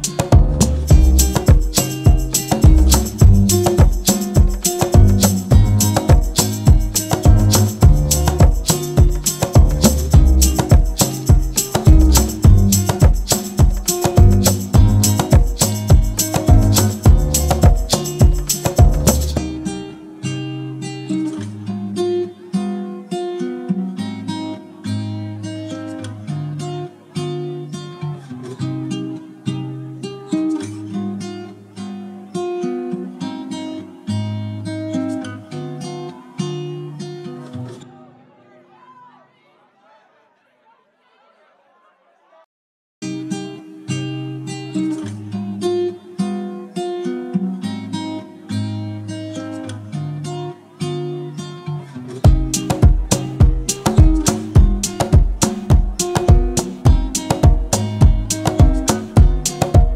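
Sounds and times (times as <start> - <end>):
acoustic guitar plucking: 0.0 - 38.3, 43.0 - 59.9.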